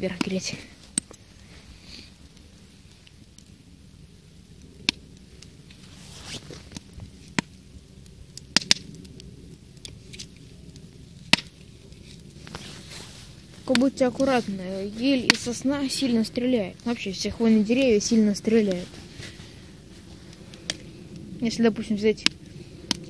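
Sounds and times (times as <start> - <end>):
campfire wood popping: 0.0 - 23.0.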